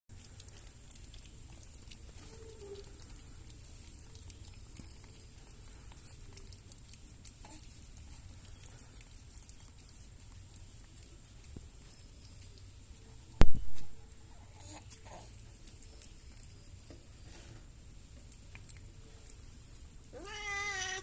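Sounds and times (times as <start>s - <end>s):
cat eating crunches: 0.1s - 21.0s.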